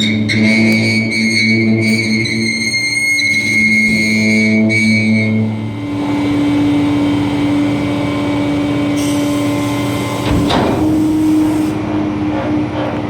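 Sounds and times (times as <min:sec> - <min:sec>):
diesel engine running: 0:00.0 - 0:13.0
hydraulics whining: 0:00.0 - 0:13.0.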